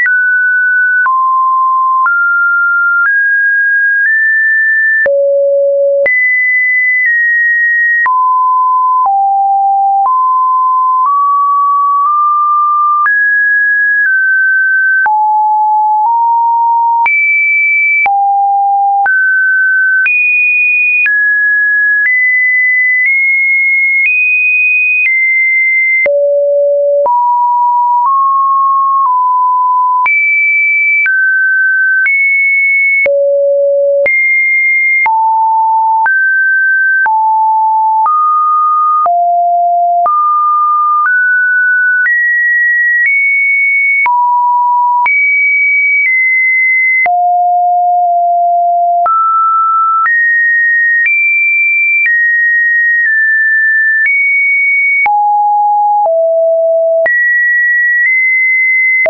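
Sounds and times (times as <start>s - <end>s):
electronic sine-wave beeps: 0.0s - 59.0s.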